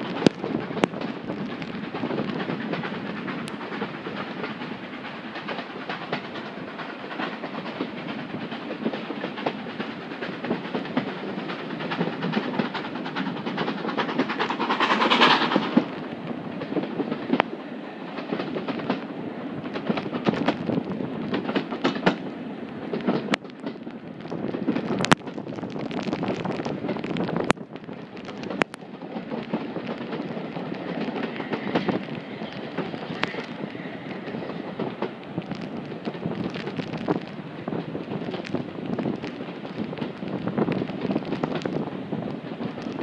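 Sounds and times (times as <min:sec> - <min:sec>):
train wheels clicking over rails: 0:00.0 - 0:43.0
wind rush on microphone: 0:00.0 - 0:43.0.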